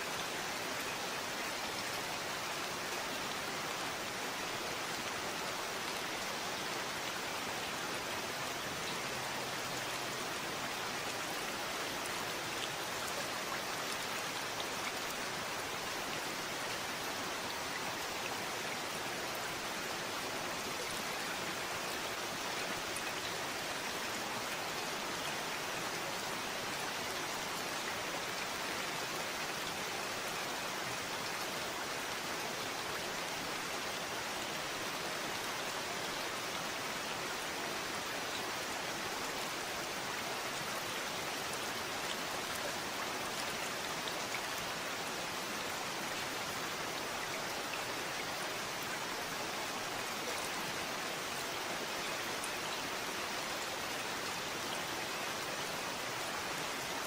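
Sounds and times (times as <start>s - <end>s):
rain patter on a surface: 0.0s - 57.0s.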